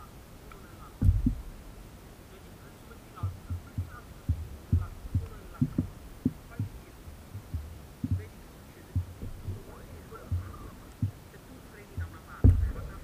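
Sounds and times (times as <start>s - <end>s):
water slapping against paddleboard: 1.0s - 1.6s, 3.2s - 13.0s.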